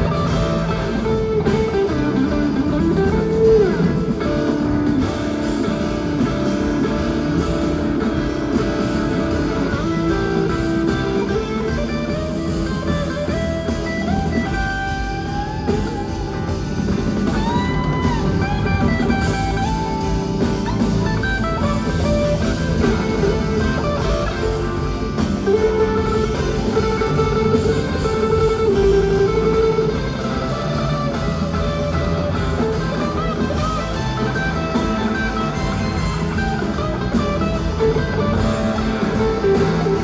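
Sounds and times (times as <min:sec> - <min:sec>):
blues band playing: 0:00.0 - 0:40.0
electric guitar solo with bends: 0:00.0 - 0:40.0.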